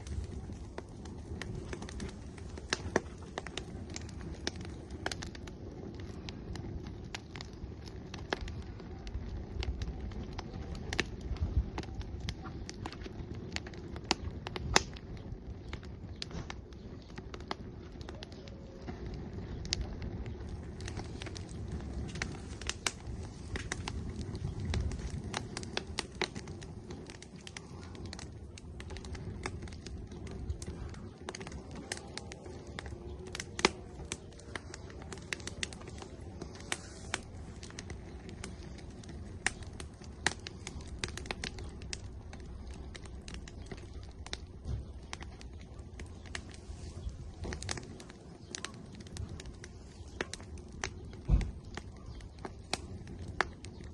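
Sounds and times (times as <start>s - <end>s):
firewood crackling and popping: 0.0s - 53.9s
low rush of flame: 0.0s - 53.9s.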